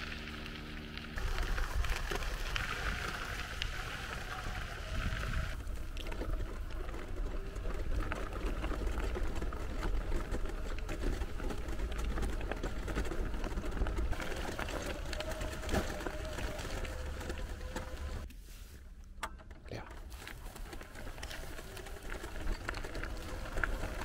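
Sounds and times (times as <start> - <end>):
wheelchair rolling over gravel: 0.0 - 18.3, 19.7 - 24.0.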